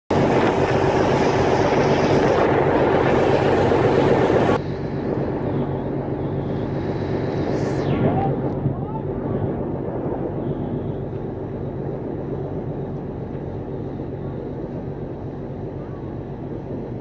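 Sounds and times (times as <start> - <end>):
ferry engine drone: 0.1 - 17.0
wind on microphone: 0.1 - 17.0.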